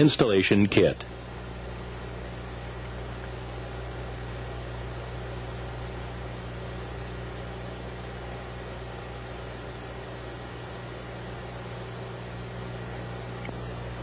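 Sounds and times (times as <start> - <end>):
low electrical hum: 0.0 - 14.0
tape hiss: 0.0 - 14.0.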